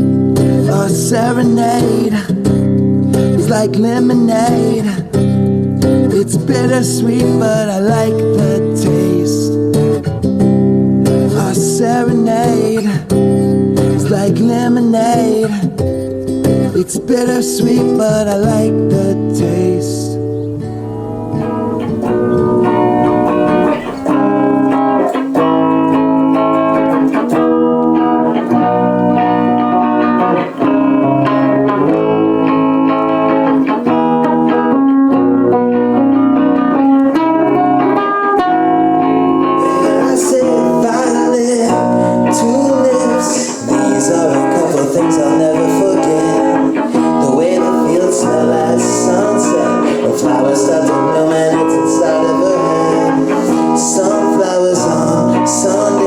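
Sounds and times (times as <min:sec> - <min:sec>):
guitar instrumental music: 0:00.0 - 0:56.0.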